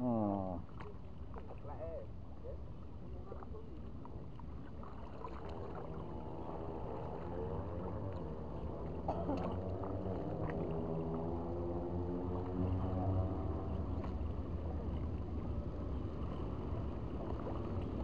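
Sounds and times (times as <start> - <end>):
constant low rumble: 0.0 - 18.0.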